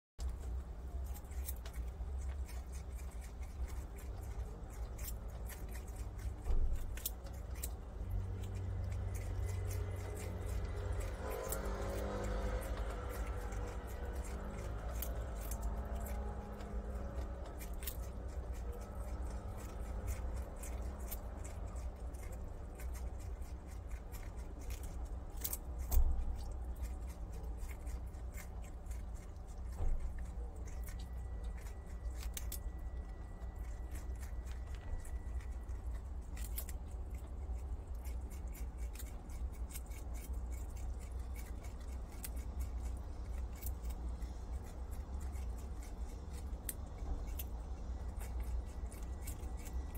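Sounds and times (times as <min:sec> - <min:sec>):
low steady hum: 0:00.2 - 0:49.9
teeth clicking through squash: 0:00.3 - 0:49.9.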